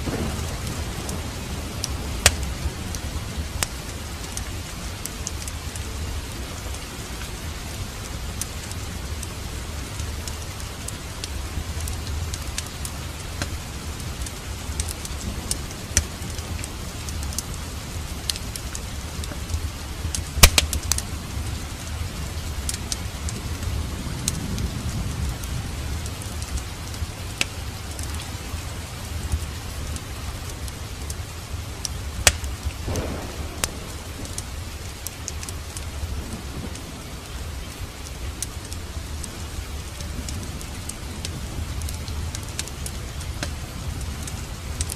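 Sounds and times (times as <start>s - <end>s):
fire crackling and popping: 0.0s - 44.9s
rain hissing: 0.0s - 44.9s.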